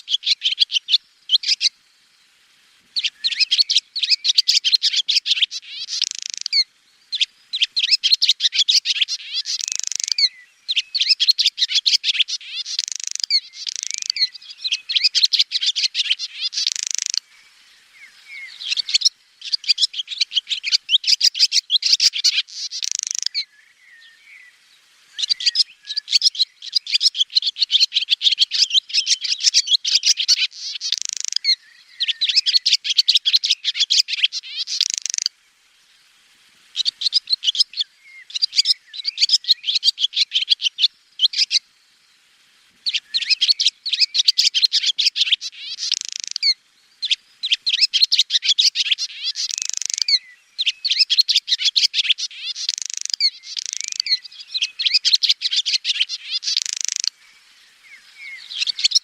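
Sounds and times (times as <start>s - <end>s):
swallow twittering: 0.0s - 1.8s, 3.0s - 35.3s, 36.7s - 41.6s, 42.8s - 59.0s.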